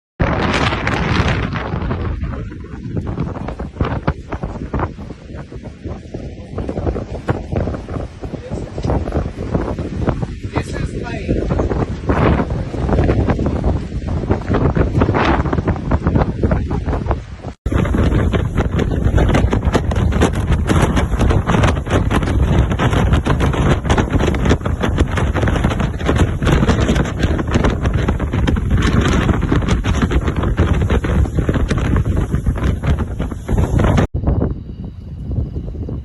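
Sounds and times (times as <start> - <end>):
wind buffeting microphone: 0.2 - 36.0.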